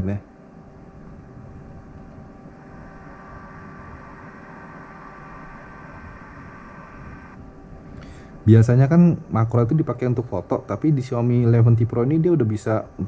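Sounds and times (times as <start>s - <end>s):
faint steady tones: 0.0s - 13.0s
room hiss and low hum: 0.0s - 13.0s.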